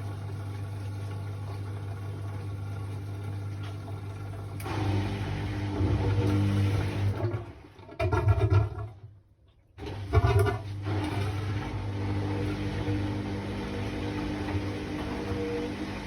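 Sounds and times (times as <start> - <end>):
washing machine motor hum: 0.0 - 9.0, 9.8 - 16.0
washing machine surge: 1.8 - 8.8, 9.8 - 16.0.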